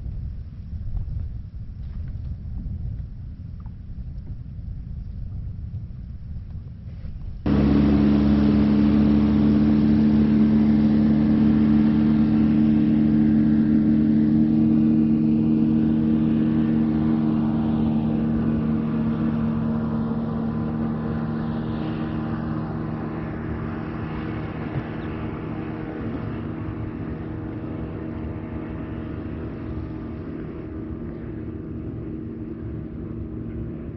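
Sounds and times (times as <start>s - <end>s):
airboat engine and propeller: 0.0s - 33.9s.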